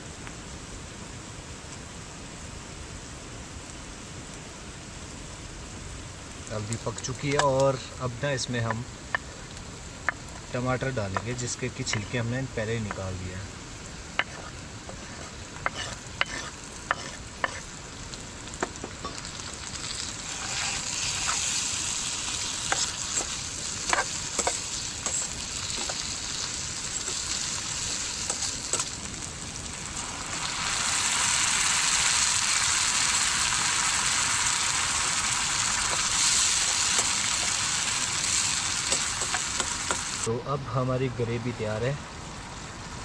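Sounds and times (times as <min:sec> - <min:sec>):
food sizzling in a pan: 0:02.4 - 0:40.3.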